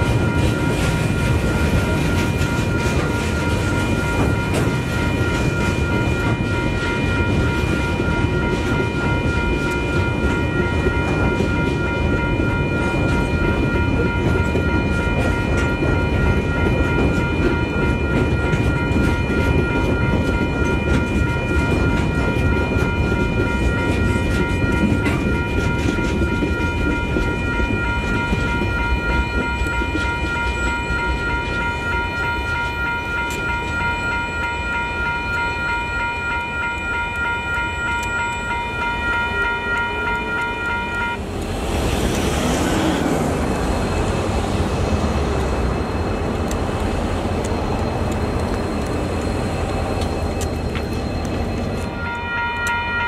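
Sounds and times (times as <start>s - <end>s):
freight train rumbling: 0.0s - 53.0s.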